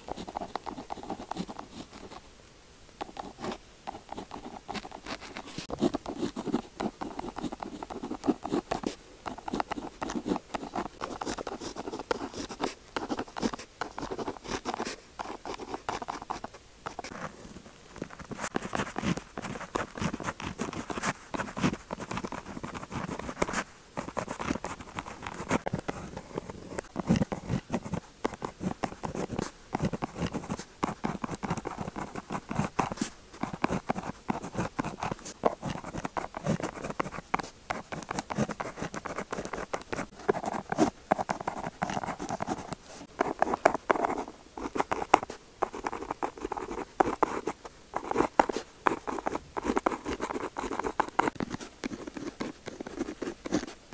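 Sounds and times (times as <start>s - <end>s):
pen scratching on paper: 0.0s - 2.2s, 3.0s - 17.3s, 18.0s - 53.8s.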